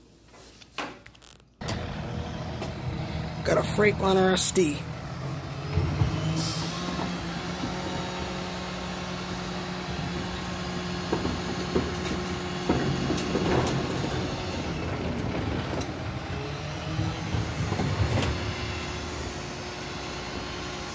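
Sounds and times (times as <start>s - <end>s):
diesel truck engine running: 1.6s - 20.9s.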